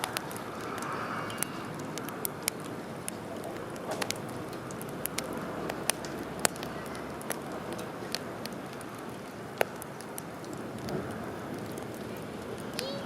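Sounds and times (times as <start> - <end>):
campfire crackling and popping: 0.0 - 13.0
fire low hiss: 0.0 - 13.0.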